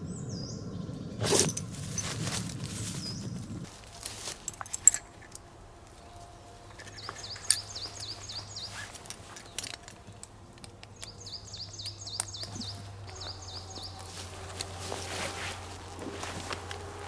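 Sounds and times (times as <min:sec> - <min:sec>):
songbird chirping: 0:00.0 - 0:17.0
gear clicking and rustling: 0:01.2 - 0:17.0.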